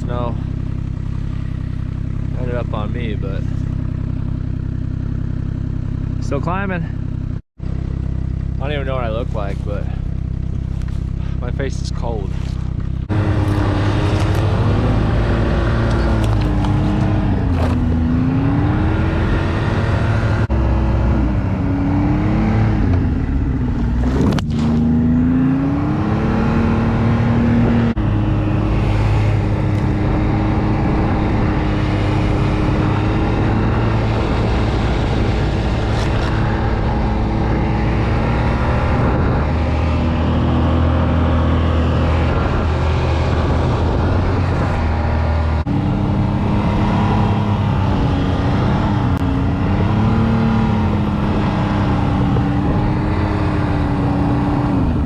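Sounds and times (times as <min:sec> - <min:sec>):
snowmobile engine under load: 0:00.0 - 0:55.0.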